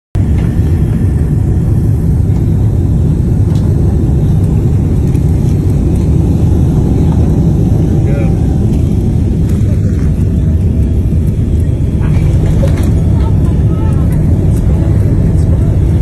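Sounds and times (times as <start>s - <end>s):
airliner cabin rumble: 0.2s - 16.0s.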